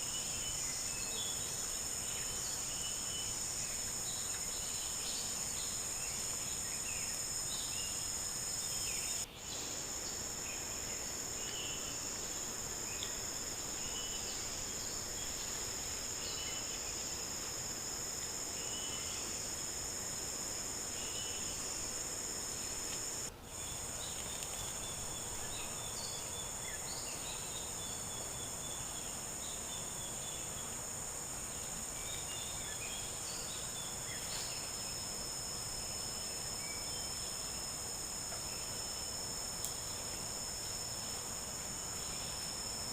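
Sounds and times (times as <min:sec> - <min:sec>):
high-pitched insect buzzing: 0:00.0 - 0:27.7, 0:32.2 - 0:42.9
insect chirps: 0:00.0 - 0:42.9.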